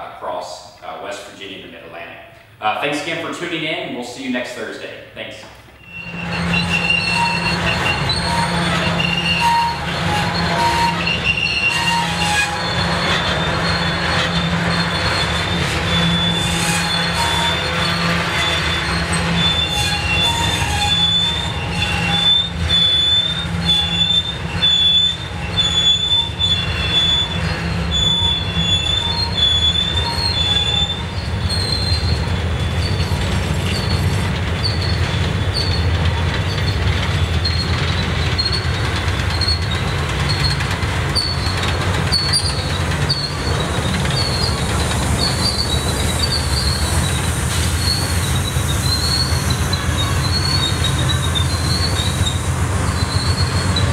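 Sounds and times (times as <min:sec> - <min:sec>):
wheels squealing against rail: 0:05.2 - 0:53.9
freight cars rolling with low rumble: 0:05.6 - 0:53.9.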